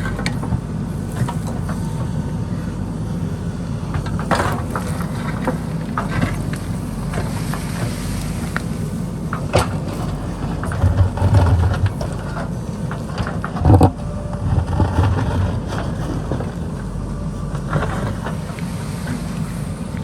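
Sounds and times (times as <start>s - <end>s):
digger knocks and clatter: 0.0s - 2.9s, 3.6s - 20.0s
diesel engine running: 0.0s - 20.0s.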